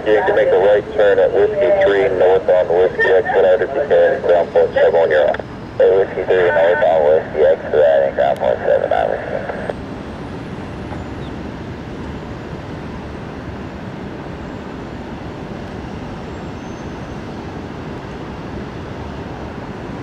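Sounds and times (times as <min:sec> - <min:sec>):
steady rumbling noise: 0:00.0 - 0:20.0.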